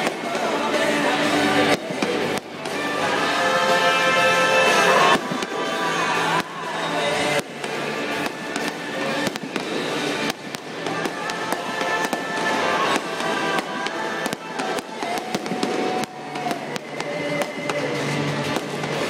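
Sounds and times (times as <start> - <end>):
fireworks bursting and crackling: 0.0 - 19.0
music playing: 0.0 - 19.0.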